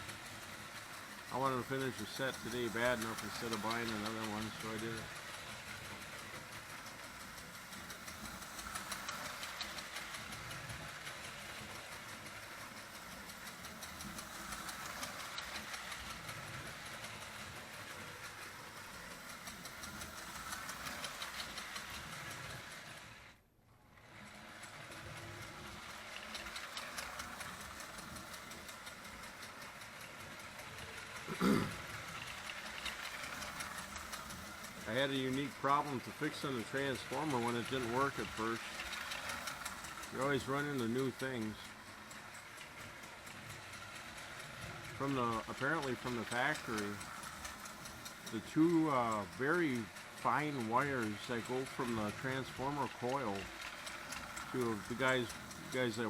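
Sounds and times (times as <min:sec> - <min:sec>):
toy locomotive chugging: 0:00.0 - 0:56.0
wheels rattling on metal rails: 0:00.0 - 0:56.0.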